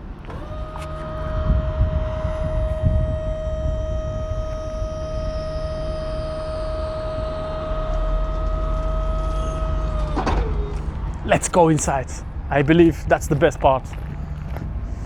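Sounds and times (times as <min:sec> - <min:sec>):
hydraulic pump whining: 0:00.0 - 0:15.0.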